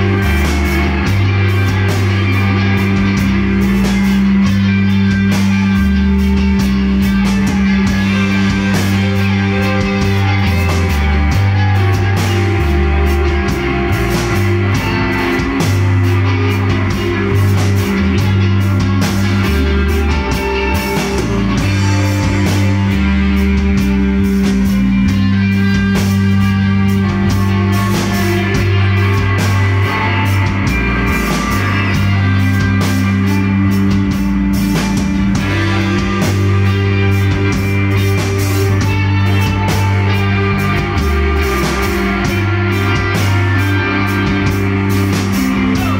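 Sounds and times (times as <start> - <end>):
bass notes: 0.0 - 45.9
drum kit: 0.0 - 45.9
electric guitars: 0.0 - 45.9.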